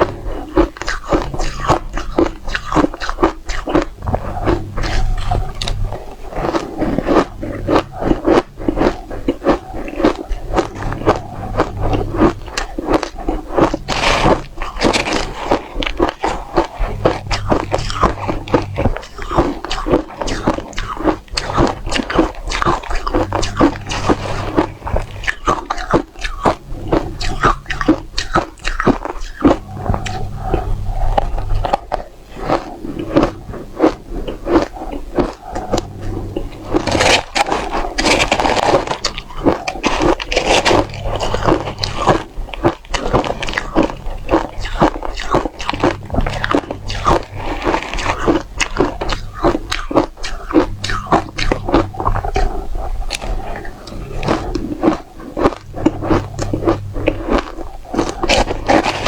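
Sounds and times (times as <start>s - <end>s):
crunching frozen ice: 0.0s - 59.0s.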